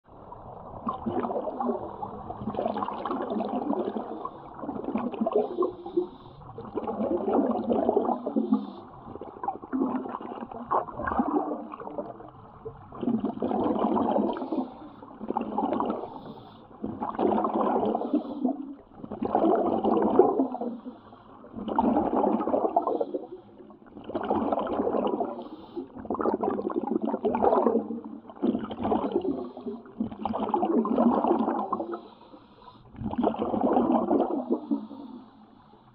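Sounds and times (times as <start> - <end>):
air bubbling underwater: 0.4 - 12.3, 12.9 - 16.2, 16.8 - 20.9, 21.5 - 32.2, 32.9 - 35.2.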